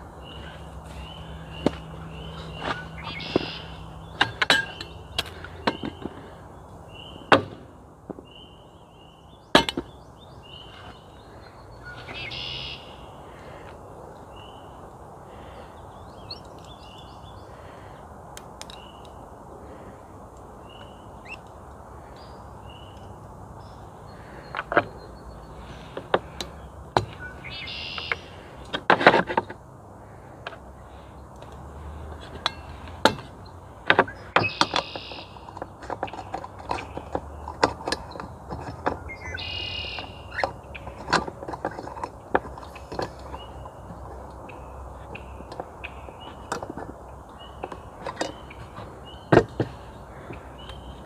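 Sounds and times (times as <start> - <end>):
bird chirping: 0.0 - 7.4, 8.2 - 18.0, 18.7 - 19.8, 20.6 - 28.5, 31.9 - 41.0, 42.6 - 51.0.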